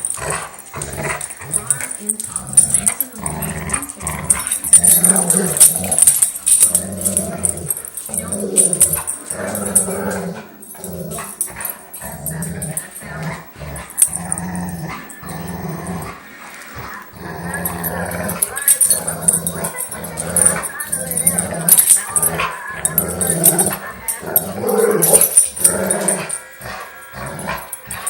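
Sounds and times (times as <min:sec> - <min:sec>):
dogs growling in play: 0:00.0 - 0:28.0.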